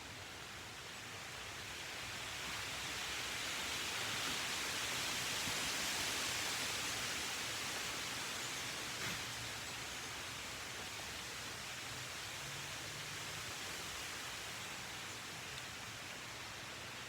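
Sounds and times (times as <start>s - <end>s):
rushing hiss of noise: 0.9s - 17.0s.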